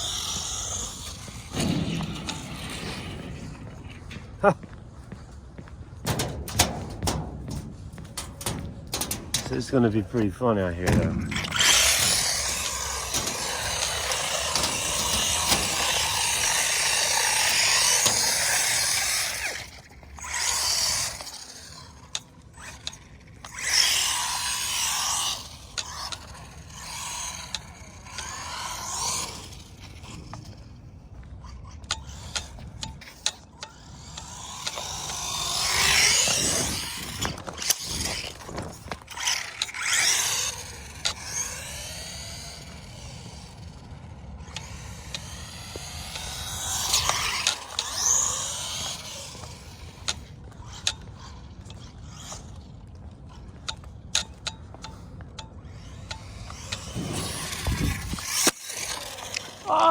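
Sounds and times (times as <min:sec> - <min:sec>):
toy truck motor whining: 0:00.0 - 0:04.6, 0:07.8 - 0:59.9.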